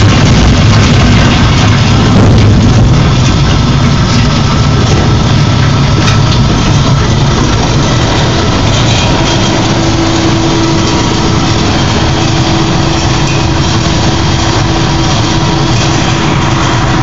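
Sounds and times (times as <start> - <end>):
grinder engine running: 0.0 - 17.0.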